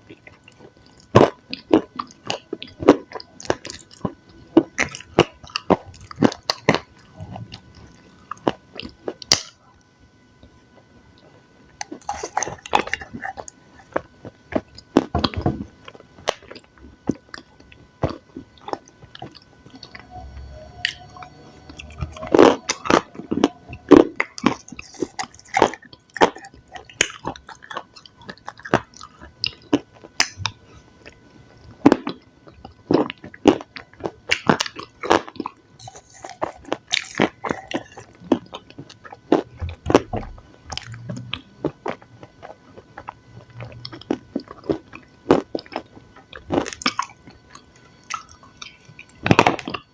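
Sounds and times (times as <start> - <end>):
crunchy food chewing: 0.0 - 10.5, 11.2 - 49.9.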